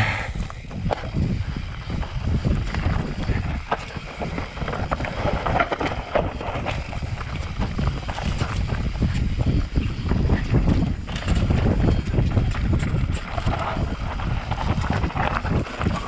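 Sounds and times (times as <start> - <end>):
tyres on dirt and stones: 0.0 - 16.0
wind buffeting microphone: 0.0 - 16.0
bike knocks and rattles: 0.3 - 16.0.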